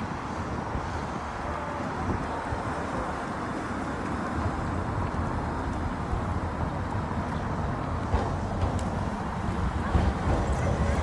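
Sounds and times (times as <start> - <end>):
streetcar running low rumble: 0.0 - 11.0.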